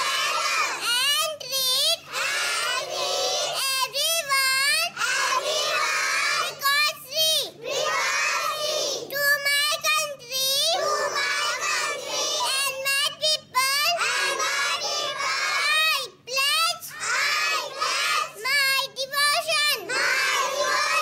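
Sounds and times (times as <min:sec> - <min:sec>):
girl reciting sing-song: 0:00.0 - 0:21.0.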